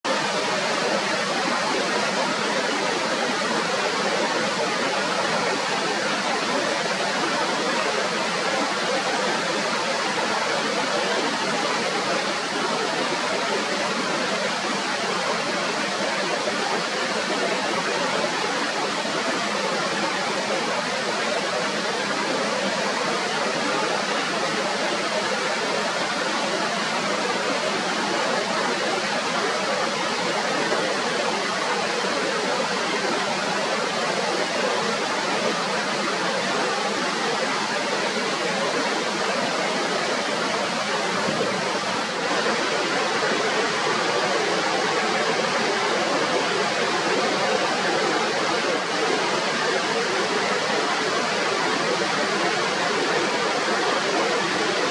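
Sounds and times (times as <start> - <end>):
river rapids rushing over rocks: 0.1 - 54.9.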